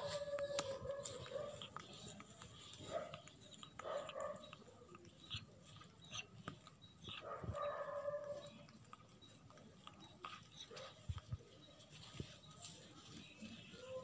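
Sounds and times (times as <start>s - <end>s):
kitten licking and smacking: 0.3s - 7.7s, 8.3s - 12.8s.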